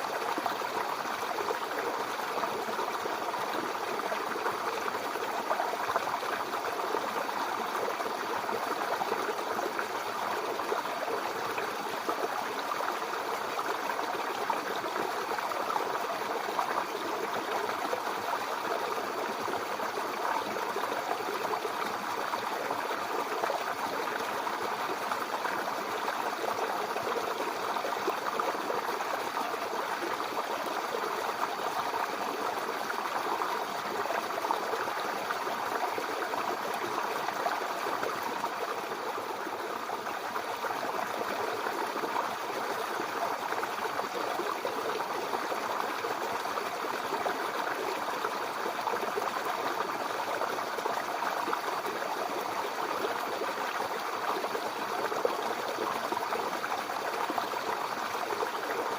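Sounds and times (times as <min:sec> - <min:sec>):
brook water trickling over stones: 0:00.0 - 0:58.9.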